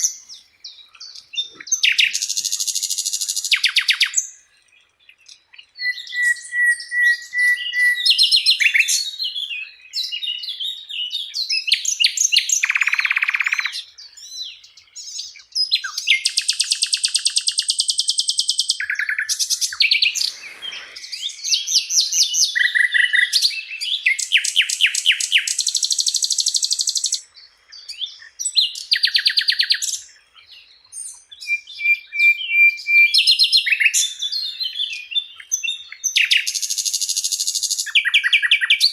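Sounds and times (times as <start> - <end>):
flycatcher singing: 0.0 - 38.9.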